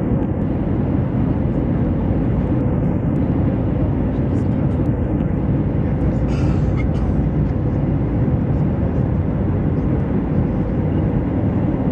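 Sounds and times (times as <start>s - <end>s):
jet engine cabin rumble: 0.0s - 11.9s.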